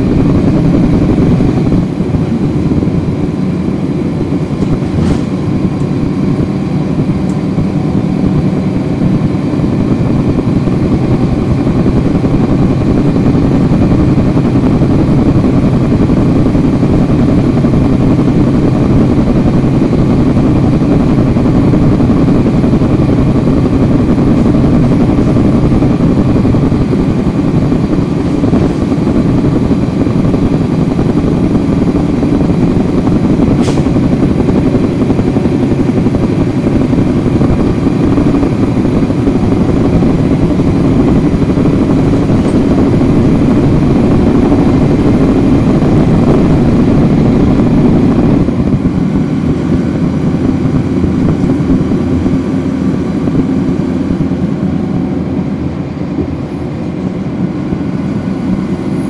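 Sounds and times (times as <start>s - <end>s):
diesel bus engine running: 0.0s - 59.0s.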